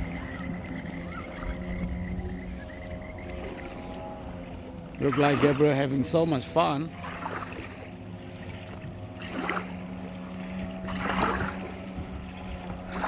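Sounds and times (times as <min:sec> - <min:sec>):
jet ski engine humming: 0:00.0 - 0:13.0
rushing water or wind: 0:00.0 - 0:13.0.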